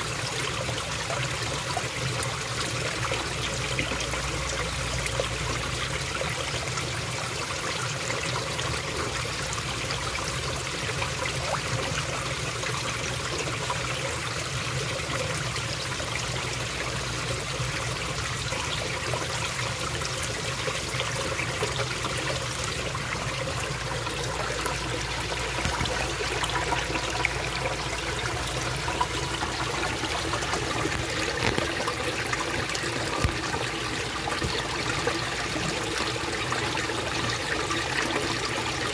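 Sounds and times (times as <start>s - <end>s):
water trickling into pool: 0.0s - 38.9s.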